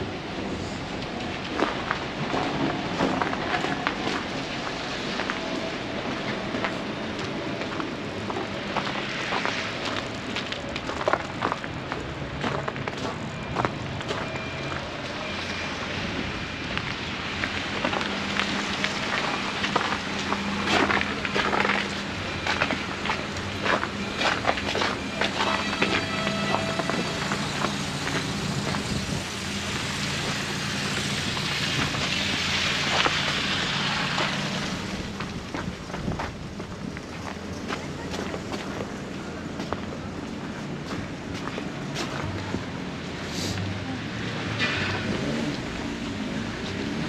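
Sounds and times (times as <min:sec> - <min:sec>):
street noise: 0:00.0 - 0:47.0.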